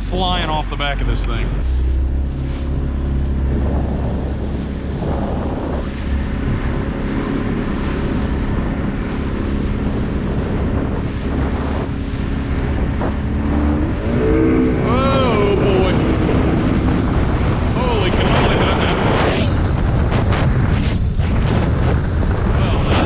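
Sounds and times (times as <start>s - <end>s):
outboard motor running: 0.0s - 23.0s
water rushing along hull: 0.0s - 23.0s
wind buffeting microphone: 0.0s - 23.0s.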